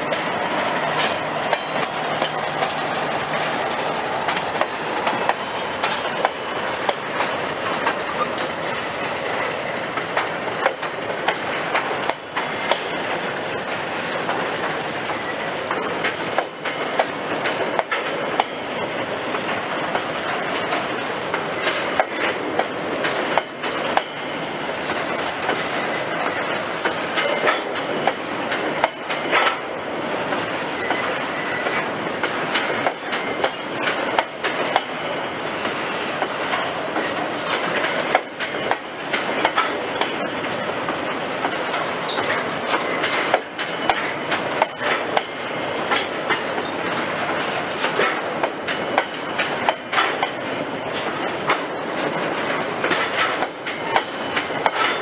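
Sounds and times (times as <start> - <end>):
train wheel and rail noise: 0.0 - 55.0
wheels clacking over rail joints: 0.0 - 55.0.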